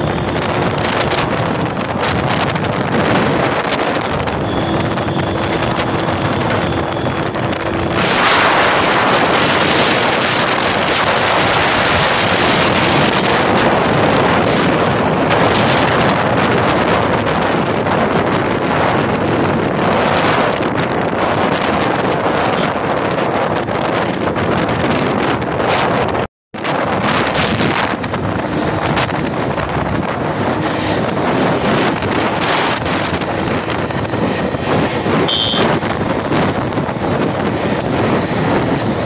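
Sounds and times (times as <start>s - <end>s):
motorcycle engine: 0.0s - 39.0s
road noise: 0.0s - 39.0s
wind buffeting microphone: 0.0s - 39.0s.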